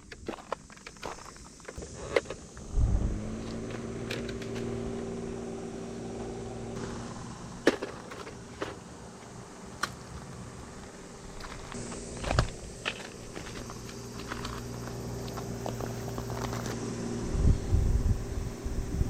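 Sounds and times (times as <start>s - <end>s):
low droning hum: 1.5s - 19.0s.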